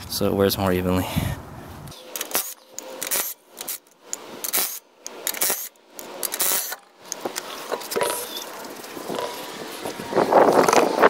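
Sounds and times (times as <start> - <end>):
power tool spinning lug nuts: 2.0 - 11.0.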